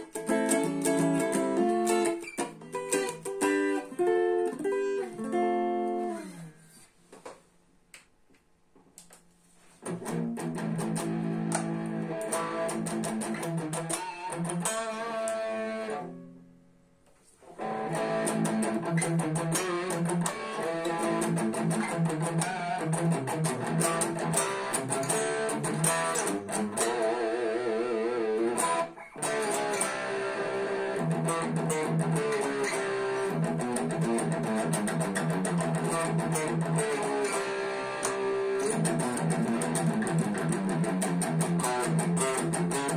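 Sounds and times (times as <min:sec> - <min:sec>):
electric guitar playing: 0:00.0 - 0:06.8, 0:09.8 - 0:16.6, 0:17.5 - 0:42.9.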